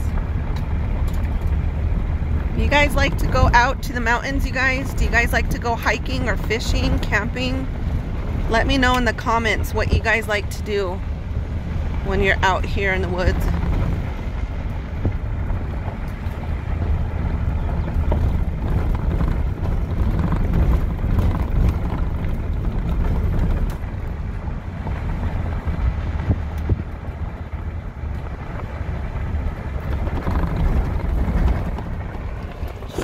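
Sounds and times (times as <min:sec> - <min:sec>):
vehicle engine and tyres rumbling: 0:00.0 - 0:33.0
wind buffeting microphone: 0:00.0 - 0:33.0.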